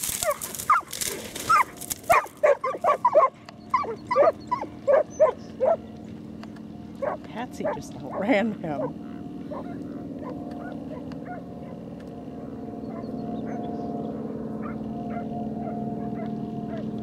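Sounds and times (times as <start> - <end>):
steady engine drone: 0.0 - 17.0.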